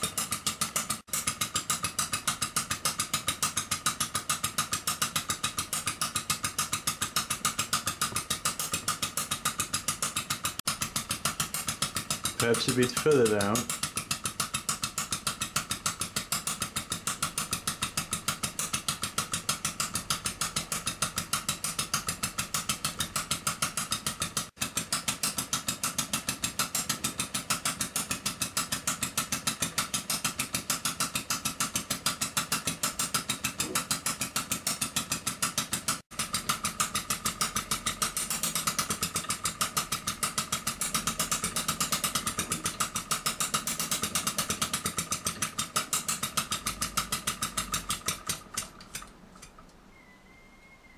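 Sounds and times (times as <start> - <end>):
small engine sharp knocking beat: 0.0 - 49.8.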